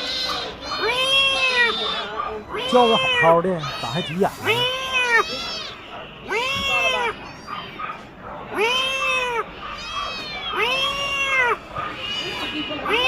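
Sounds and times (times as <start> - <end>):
cat meowing: 0.0 - 13.0.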